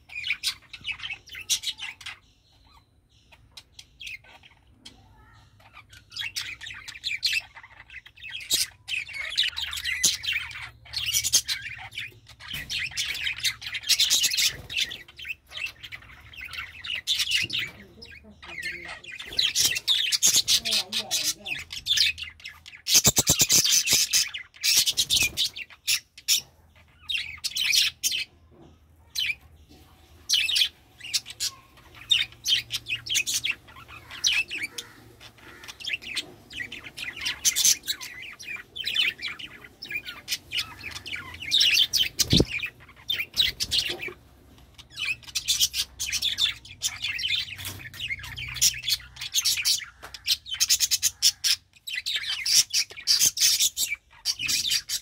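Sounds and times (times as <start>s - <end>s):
budgerigars chattering and warbling: 0.0s - 55.0s.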